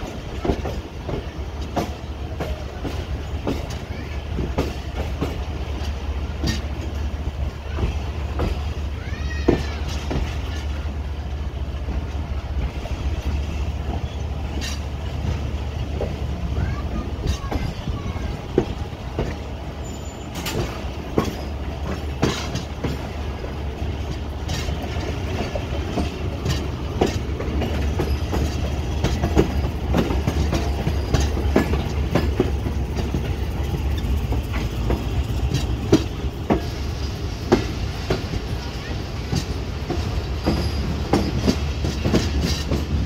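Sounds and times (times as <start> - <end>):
train running gear rumble: 0.0 - 43.0
wheels clacking over rail joints: 0.0 - 43.0.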